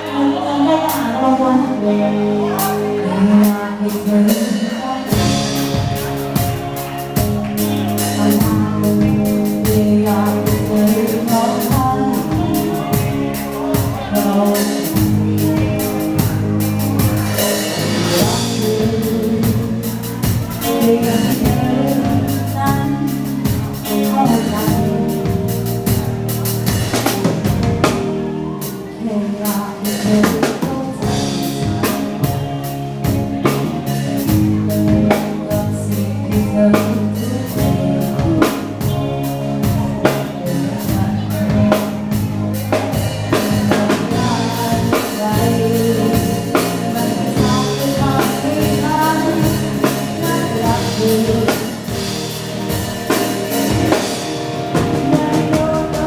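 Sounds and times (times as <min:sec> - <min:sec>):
live pop band playing: 0:00.0 - 0:56.0
person singing: 0:00.0 - 0:56.0.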